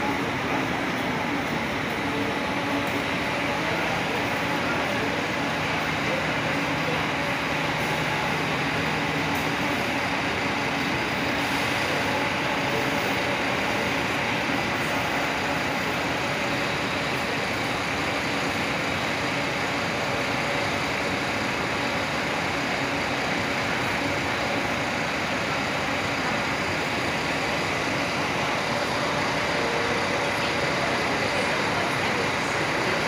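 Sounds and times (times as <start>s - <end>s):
bus diesel engines idling: 0.0s - 33.0s.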